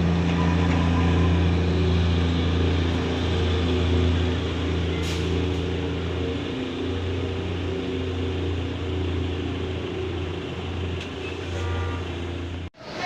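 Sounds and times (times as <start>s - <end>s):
diesel locomotive engine humming: 0.0s - 13.0s.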